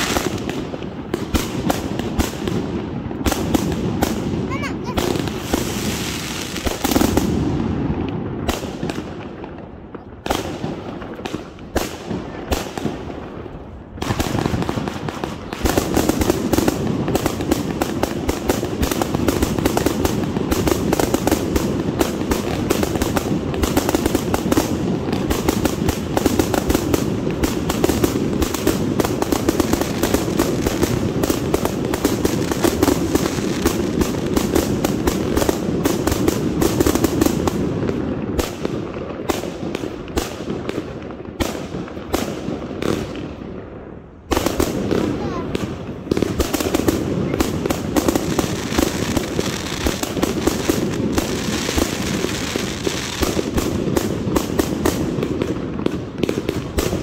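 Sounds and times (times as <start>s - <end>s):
rapid-fire firework barrage: 0.0s - 57.0s.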